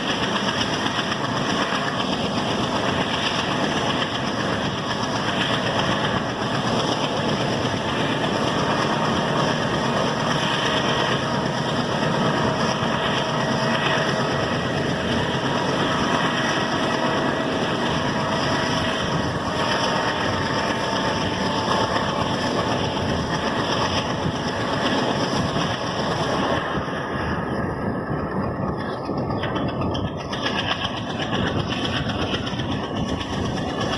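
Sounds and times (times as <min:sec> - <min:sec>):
diesel locomotive engine running: 0:00.0 - 0:33.9
rail noise: 0:00.0 - 0:33.9.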